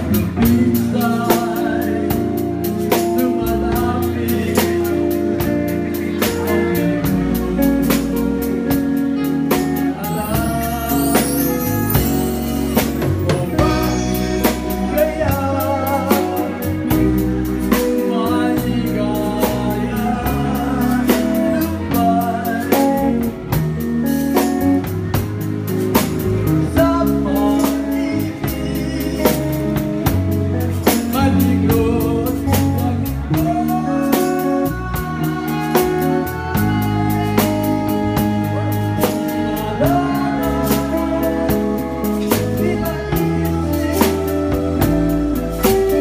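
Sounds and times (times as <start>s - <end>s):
drum kit hits and cymbals: 0.0s - 18.8s, 19.4s - 46.0s
bass notes: 0.0s - 46.0s
man singing: 0.0s - 46.0s.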